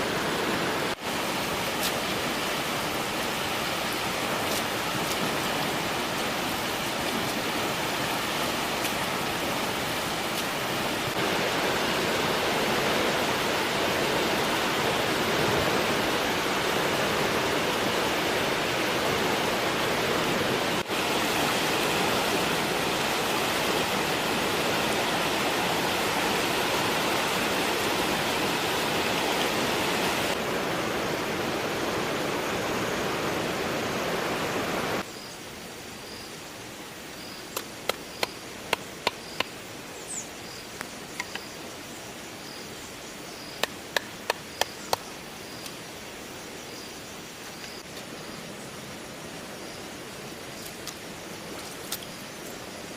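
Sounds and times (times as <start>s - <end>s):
rushing water hiss: 0.0s - 52.9s.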